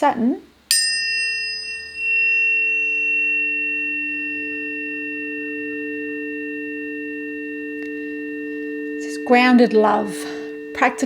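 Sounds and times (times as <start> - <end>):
tuning forks ringing: 0.7 - 11.0.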